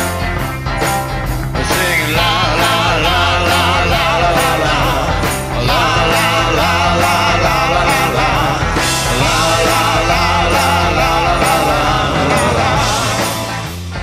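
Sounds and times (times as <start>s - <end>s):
rock song: 0.0s - 14.0s.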